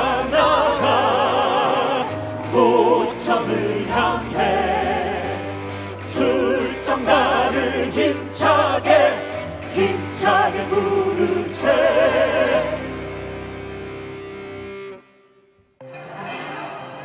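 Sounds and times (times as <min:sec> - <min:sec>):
group singing with vibrato: 0:00.0 - 0:13.7
backing music: 0:00.0 - 0:15.0.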